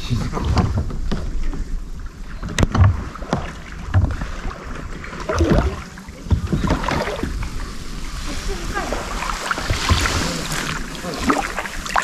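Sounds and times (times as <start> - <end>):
kayak paddle strokes in water: 0.0 - 12.0.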